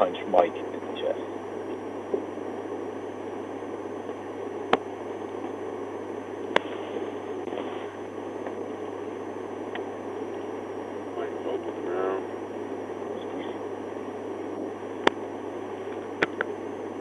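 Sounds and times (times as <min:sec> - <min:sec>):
steady hiss and low hum: 0:00.0 - 0:17.0.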